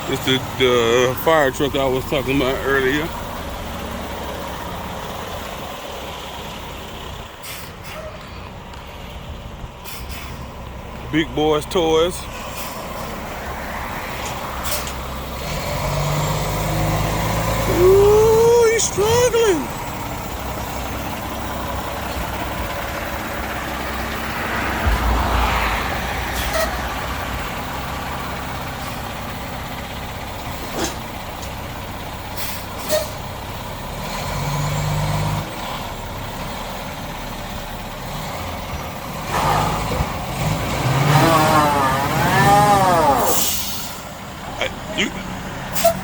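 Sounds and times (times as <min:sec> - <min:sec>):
heavy truck engine straining: 0:00.0 - 0:46.0.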